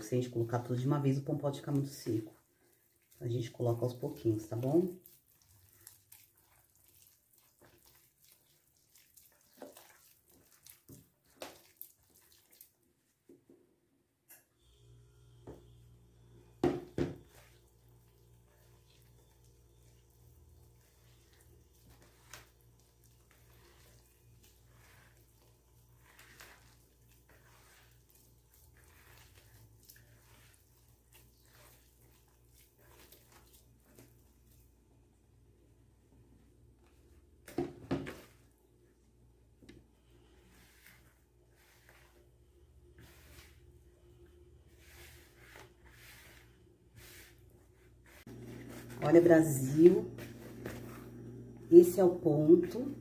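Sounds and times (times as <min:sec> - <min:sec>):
hand squelching wet dough: 0:00.0 - 0:13.4, 0:17.2 - 0:53.0.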